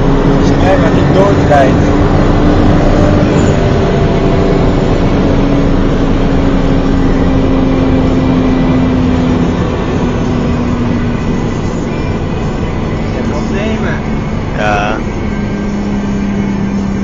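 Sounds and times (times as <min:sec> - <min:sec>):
car engine drone: 0:00.0 - 0:17.0
wind and road noise: 0:00.0 - 0:17.0.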